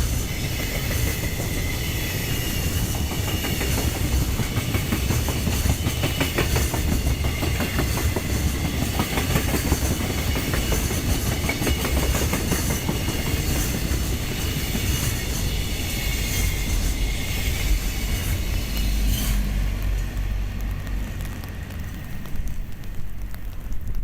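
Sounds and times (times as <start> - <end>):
low train rumble: 0.0 - 24.0
train wheels clattering over rail joints: 0.0 - 24.0.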